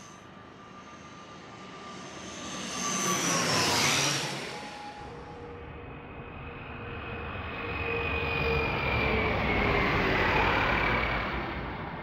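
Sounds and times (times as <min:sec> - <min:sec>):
jet airliner engines: 0:00.0 - 0:12.0.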